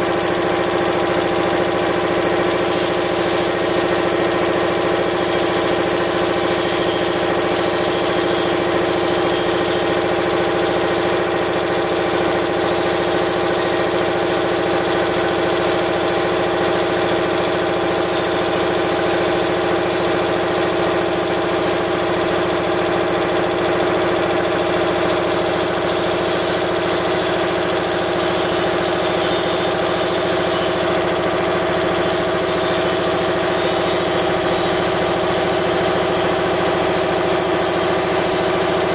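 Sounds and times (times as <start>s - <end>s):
air compressor drone: 0.0s - 38.9s.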